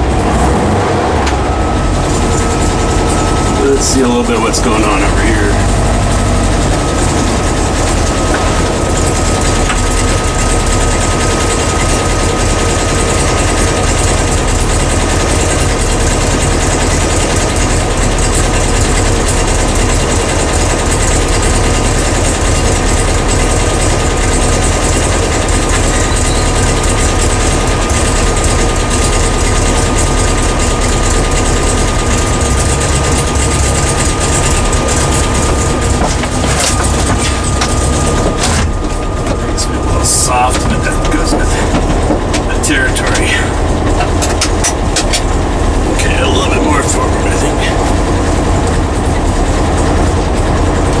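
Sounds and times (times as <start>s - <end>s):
car engine drone inside cabin: 0.0s - 51.0s.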